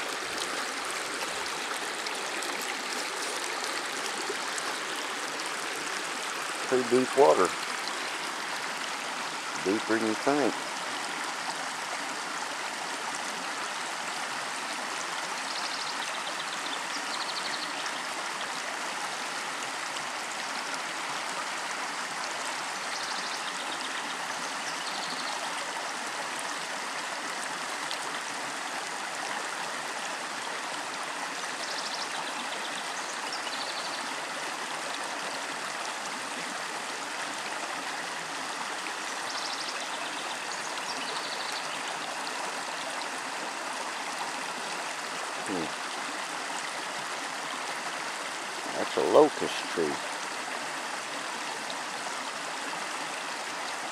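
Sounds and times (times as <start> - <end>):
water flowing in creek: 0.0 - 53.9.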